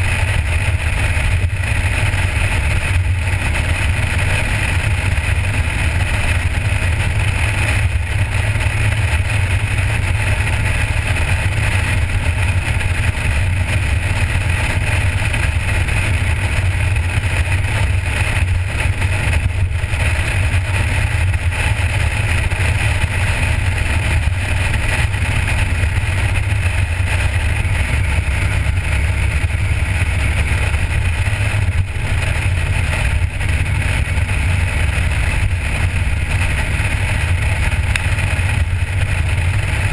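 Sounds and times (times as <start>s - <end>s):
car engine low rumble: 0.0s - 39.9s
wind and road noise: 0.0s - 39.9s.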